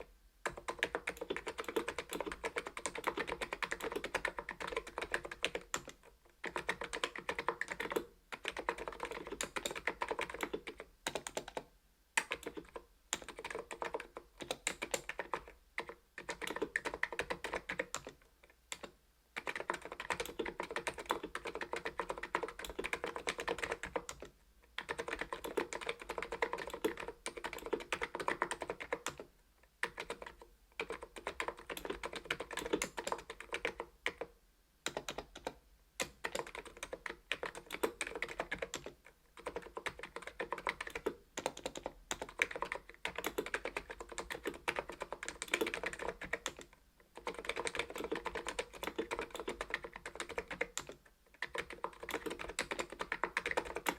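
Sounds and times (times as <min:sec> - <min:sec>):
fast keyboard typing: 0:00.4 - 0:53.9.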